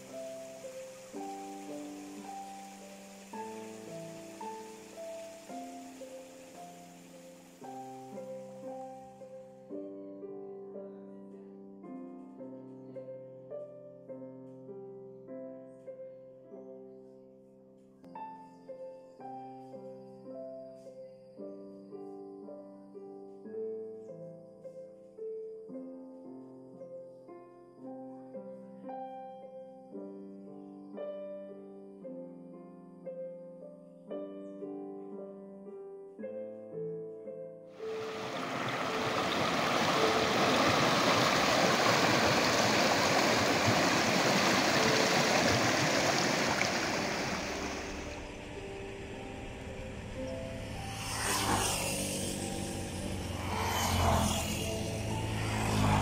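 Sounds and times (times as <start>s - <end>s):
soft piano music: 0.0s - 56.0s.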